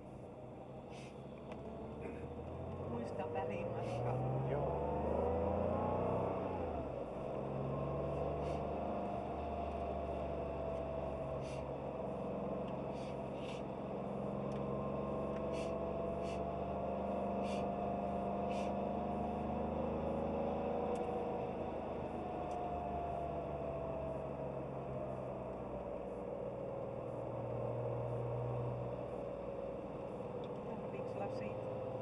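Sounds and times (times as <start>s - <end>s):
car engine cruising: 0.0s - 32.0s.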